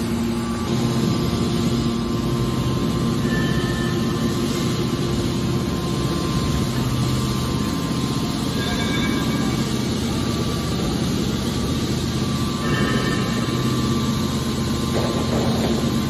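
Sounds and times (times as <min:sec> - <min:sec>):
hydraulic baler humming: 0:00.0 - 0:16.0.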